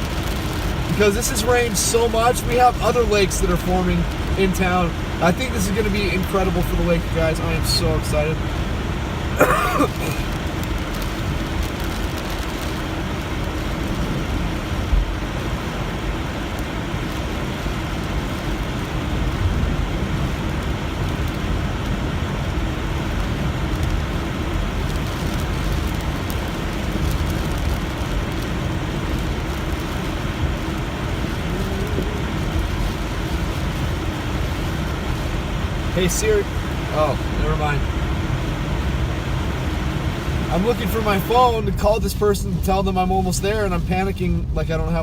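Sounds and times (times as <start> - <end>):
rain on a car: 0.0 - 45.0
road and tyre noise: 0.0 - 45.0.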